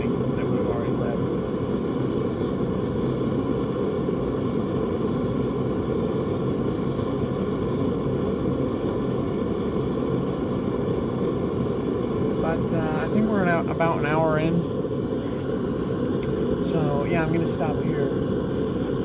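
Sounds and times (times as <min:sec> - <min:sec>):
faint hum: 0:00.0 - 0:19.0
low rumbling noise: 0:00.0 - 0:19.0.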